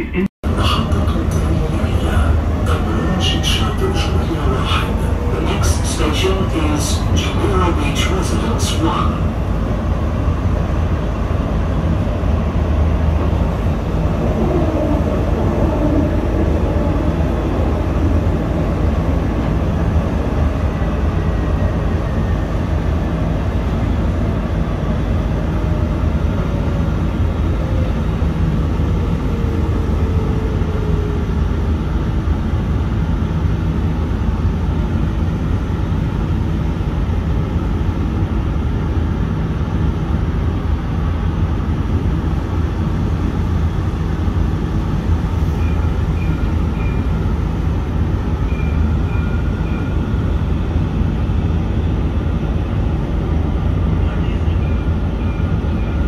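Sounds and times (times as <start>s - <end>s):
tram rumbling: 0.0s - 56.0s.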